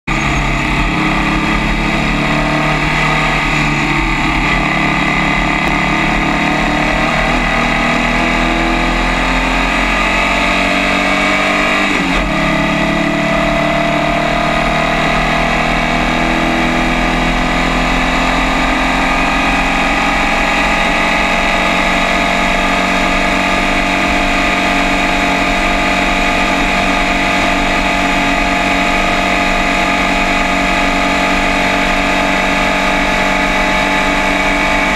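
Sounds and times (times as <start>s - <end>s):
race car engine at speed: 0.0s - 34.9s.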